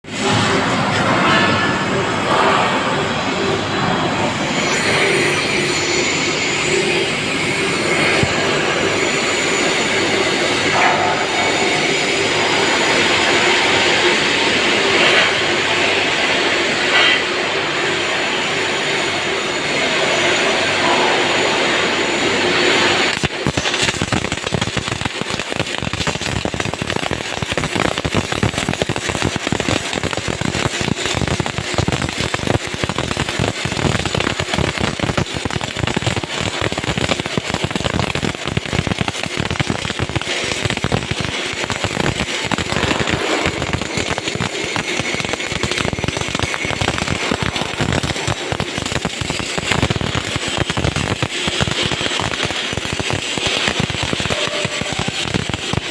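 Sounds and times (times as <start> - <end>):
arc welding crackle: 0.0 - 55.9.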